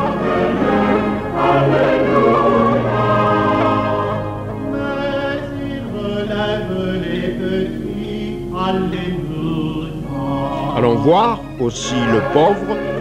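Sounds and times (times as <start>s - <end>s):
choral singing: 0.0s - 13.0s.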